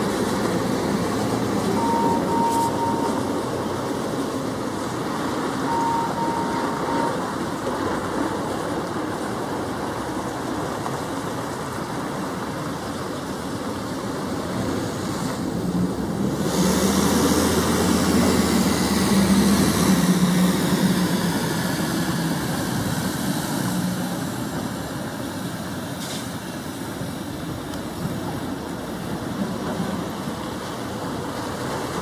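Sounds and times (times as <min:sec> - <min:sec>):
diesel truck engine rumble: 0:00.0 - 0:32.0.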